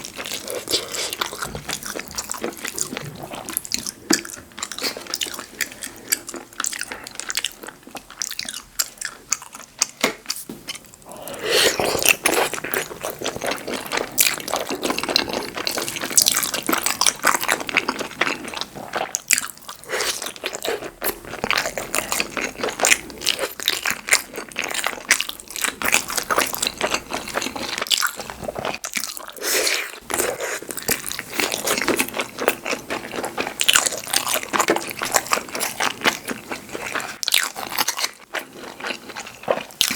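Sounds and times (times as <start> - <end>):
person crunching and chewing food: 0.0 - 39.9.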